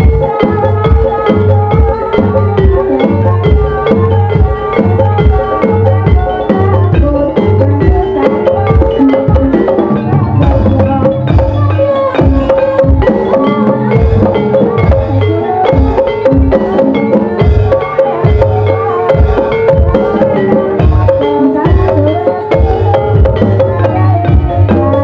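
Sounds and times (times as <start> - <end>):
drum strokes: 0.0 - 25.0.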